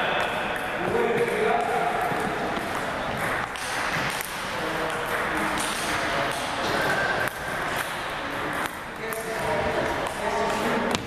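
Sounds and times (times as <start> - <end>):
table tennis balls clicking: 0.2 - 11.0.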